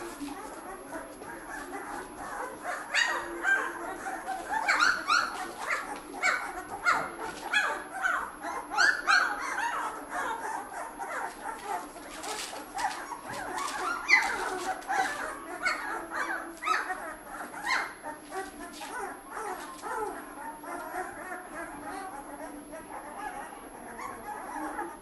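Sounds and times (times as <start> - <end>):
puppies whining and squealing: 0.0 - 25.0.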